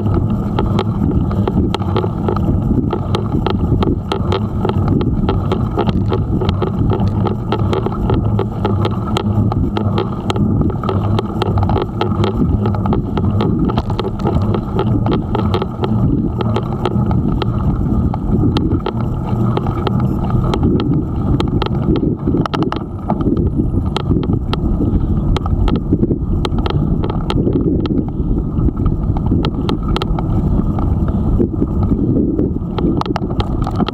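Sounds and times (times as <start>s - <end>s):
bike clicks and rattles: 0.0s - 33.9s
tyres rumbling on asphalt: 0.0s - 33.9s
wind buffeting microphone: 0.0s - 33.9s.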